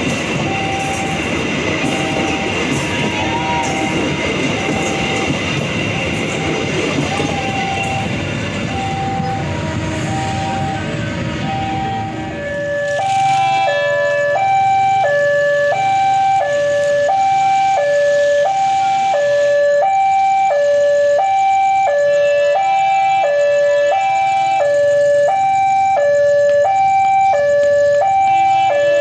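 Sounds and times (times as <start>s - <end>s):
two-tone level crossing alarm: 0.0s - 29.0s.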